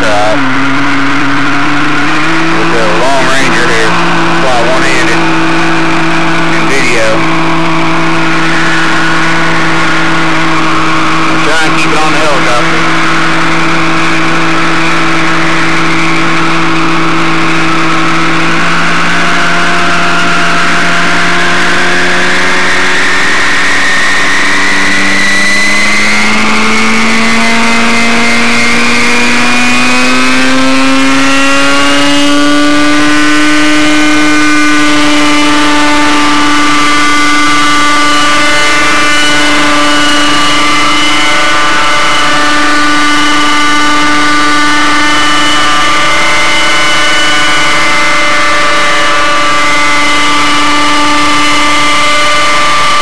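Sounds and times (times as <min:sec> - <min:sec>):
rc helicopter engine running: 0:00.0 - 0:53.0.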